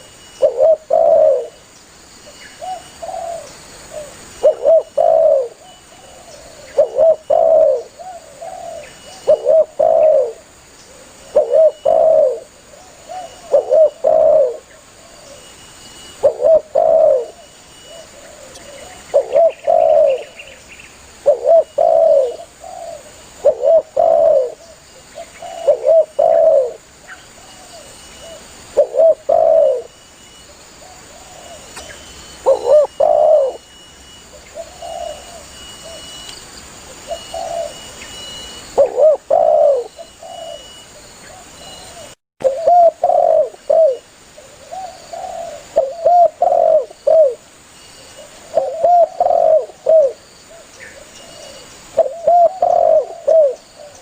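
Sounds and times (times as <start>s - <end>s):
dove cooing: 0.0s - 1.6s, 2.6s - 15.5s, 16.1s - 20.6s, 21.2s - 29.9s, 30.8s - 33.7s, 34.3s - 36.2s, 37.0s - 47.4s, 48.2s - 54.0s.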